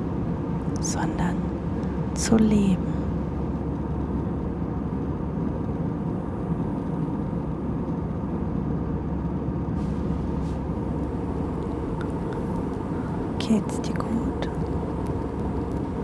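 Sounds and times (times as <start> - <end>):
airliner cabin hum: 0.0 - 16.0.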